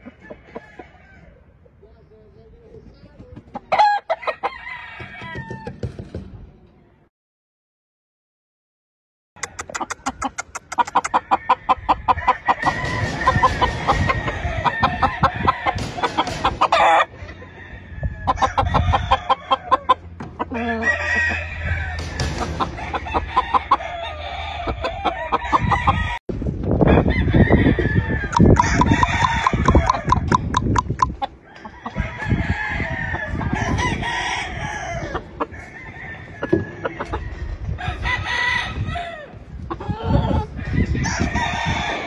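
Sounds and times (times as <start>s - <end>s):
roosters crowing and clucking: 0.0s - 1.8s, 2.8s - 6.4s, 9.4s - 42.0s.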